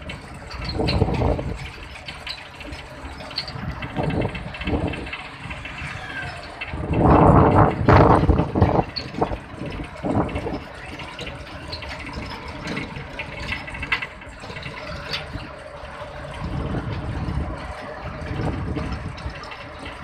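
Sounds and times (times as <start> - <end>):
vehicle road noise at speed: 0.0 - 20.0
wind gusts on microphone: 0.0 - 20.0.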